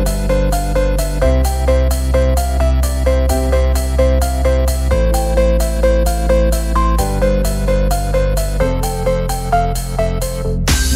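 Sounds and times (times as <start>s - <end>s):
background music with steady beat: 0.0s - 10.9s.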